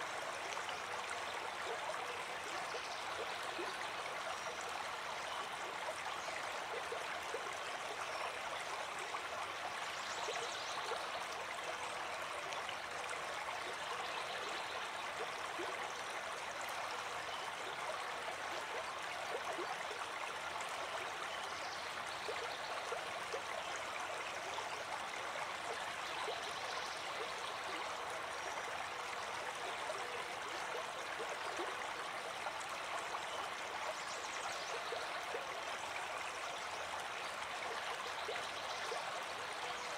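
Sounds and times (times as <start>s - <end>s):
brook running over rocks: 0.0s - 39.9s.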